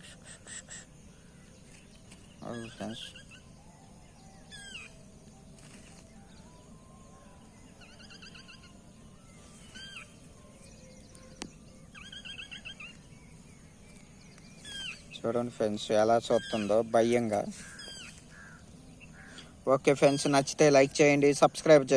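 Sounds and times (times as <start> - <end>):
faint wavering hum: 0.0 - 21.9
high down-slurred bird chirps: 0.0 - 21.9.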